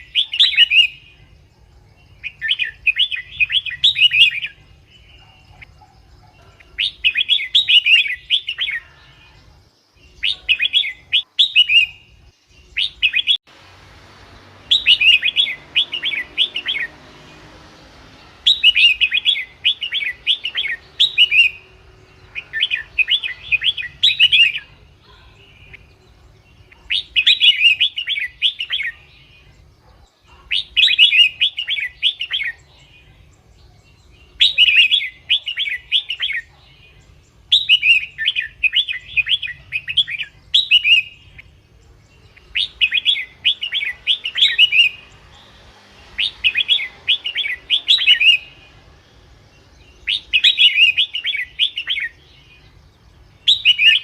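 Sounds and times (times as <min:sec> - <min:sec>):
bulbul whistled song: 0:00.0 - 0:01.4, 0:02.0 - 0:09.4, 0:10.0 - 0:13.4, 0:14.4 - 0:29.6, 0:30.3 - 0:32.8, 0:33.7 - 0:41.5, 0:42.2 - 0:54.0.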